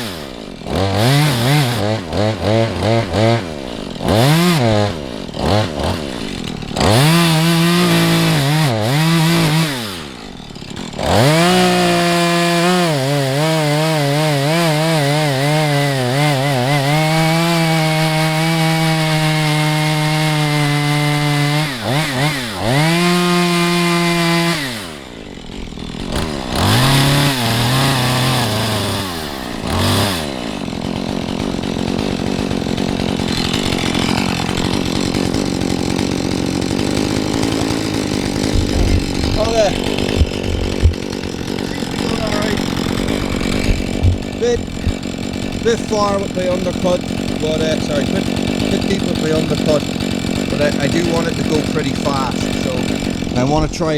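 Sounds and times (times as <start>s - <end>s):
chainsaw revving and cutting: 0.0s - 53.9s.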